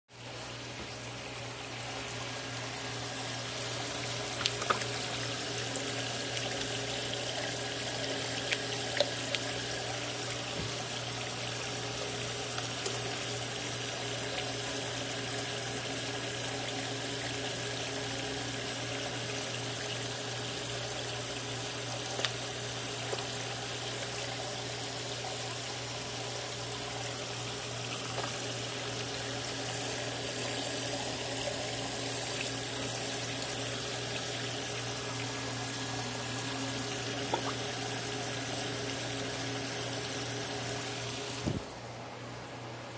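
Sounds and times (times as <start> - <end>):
trickle of running water: 0.1 - 41.8.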